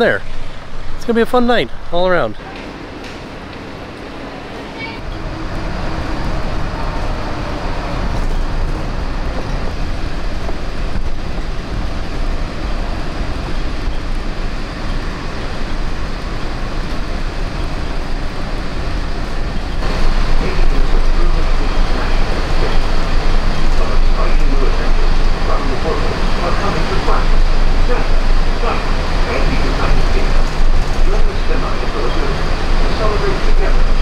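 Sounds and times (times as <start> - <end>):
monorail running rumble: 0.0 - 34.0.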